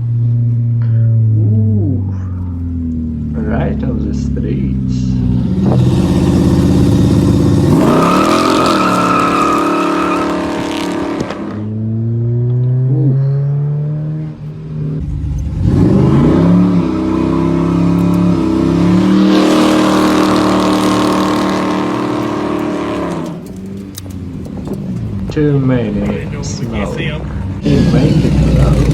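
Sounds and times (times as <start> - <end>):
drag car engine accelerating hard: 3.2 - 25.2, 26.1 - 28.9.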